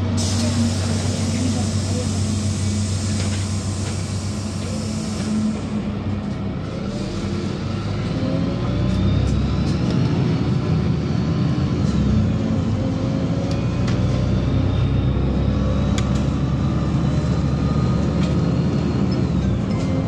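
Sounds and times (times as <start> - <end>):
bus engine hum: 0.0 - 20.0
road noise: 0.0 - 20.0.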